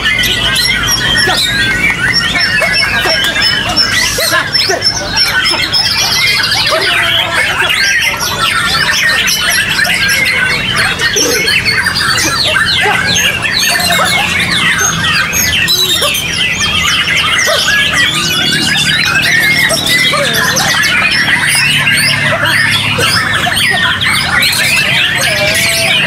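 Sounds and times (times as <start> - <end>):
birds singing whistles and trills: 0.0 - 26.0
low background murmur: 0.0 - 26.0.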